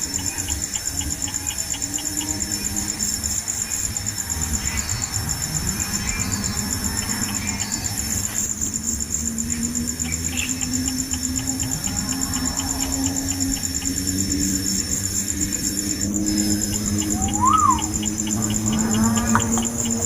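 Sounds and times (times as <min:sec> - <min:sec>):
high-pitched insect trilling: 0:00.0 - 0:20.0.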